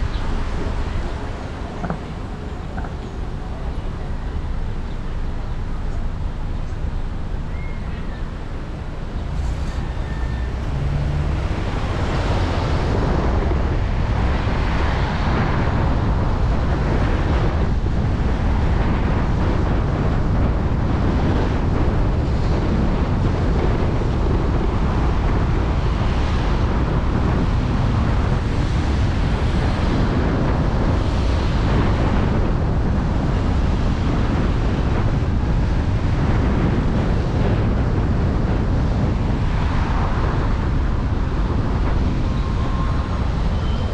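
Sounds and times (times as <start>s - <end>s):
road and tyre noise: 0.0s - 43.9s
wind buffeting microphone: 0.0s - 43.9s.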